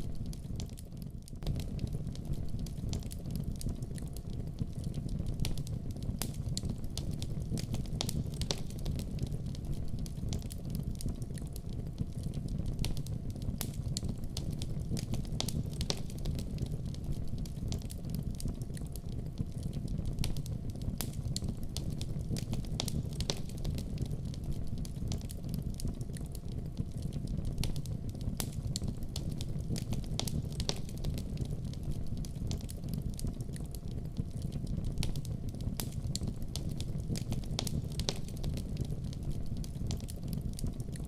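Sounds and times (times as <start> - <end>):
fireplace fire crackling: 0.0 - 41.0.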